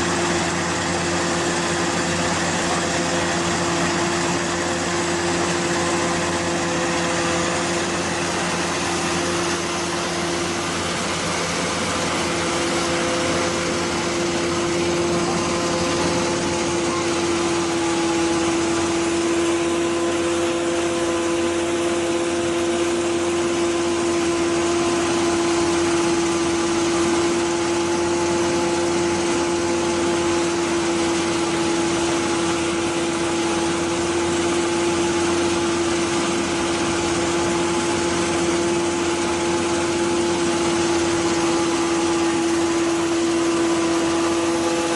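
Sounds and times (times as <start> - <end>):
constant mechanical whine: 0.0 - 44.9
threshing machine running: 0.0 - 44.9.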